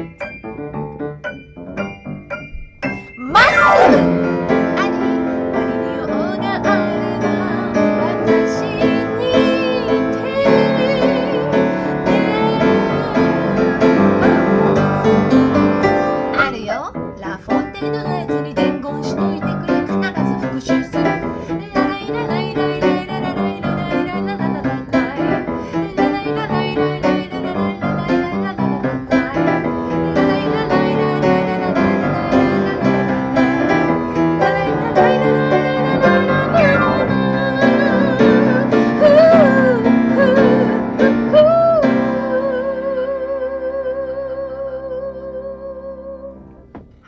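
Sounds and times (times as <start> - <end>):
piano: 0.0 - 47.0.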